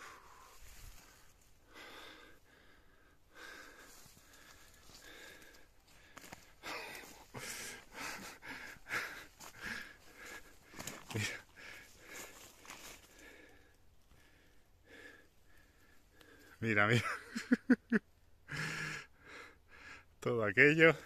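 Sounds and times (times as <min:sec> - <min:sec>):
man breathing heavily: 0:00.0 - 0:16.7, 0:18.4 - 0:20.2.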